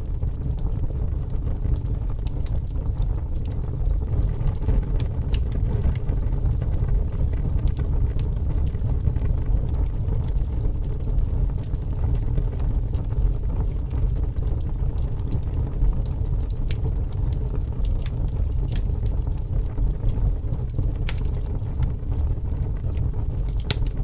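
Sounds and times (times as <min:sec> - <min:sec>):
fire burning and crackling: 0:00.0 - 0:24.0.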